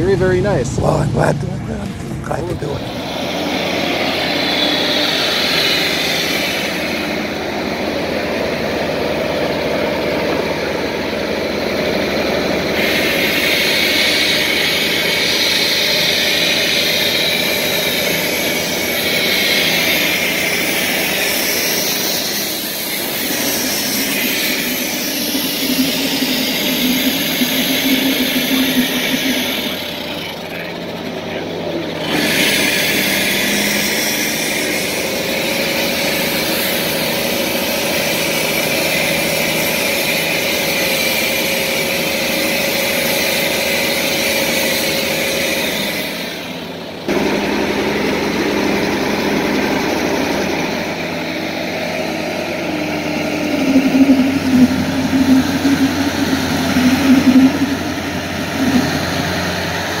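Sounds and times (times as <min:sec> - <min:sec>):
deep pulsing engine note: 0:00.0 - 0:38.0, 0:47.0 - 1:00.0
tractor engines running at low speed: 0:00.0 - 1:00.0.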